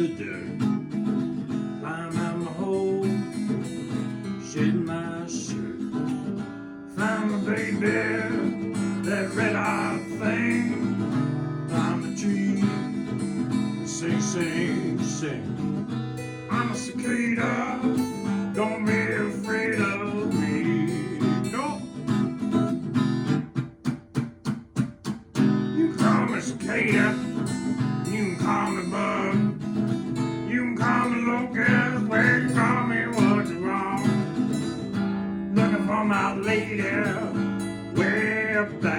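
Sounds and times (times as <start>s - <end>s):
strummed acoustic guitar: 0.0s - 38.9s
wavering guitar melody: 0.0s - 38.9s.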